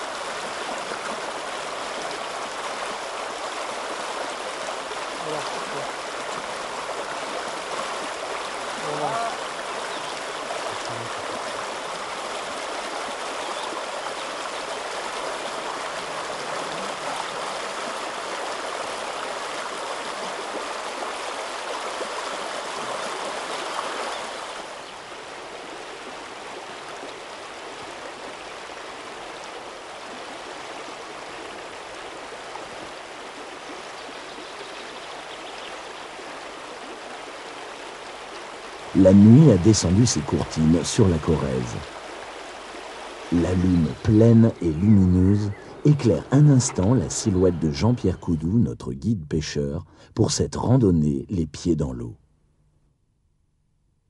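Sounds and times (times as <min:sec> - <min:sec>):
river water rushing: 0:00.0 - 0:48.1.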